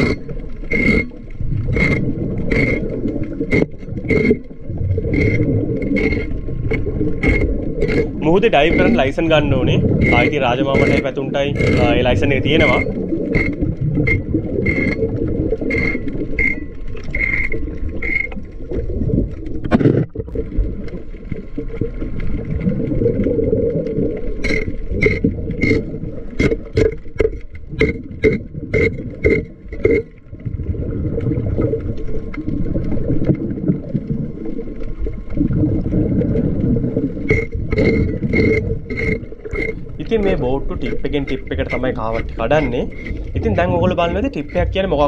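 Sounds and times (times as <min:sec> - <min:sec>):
underwater rumble and bubbling: 0:00.0 - 0:45.0.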